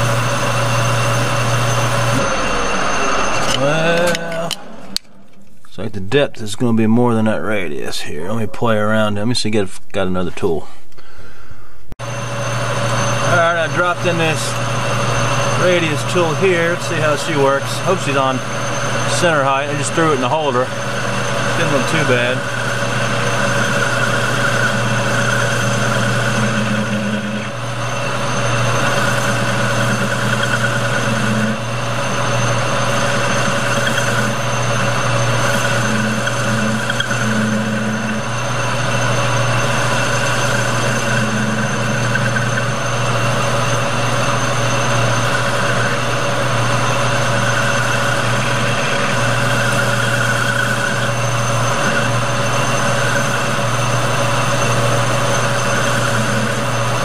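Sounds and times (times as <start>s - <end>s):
tool cutting spinning metal: 0.0s - 5.4s, 12.0s - 57.0s
metal lathe whining and humming: 0.0s - 5.5s, 12.0s - 57.0s
low hum: 0.0s - 57.0s.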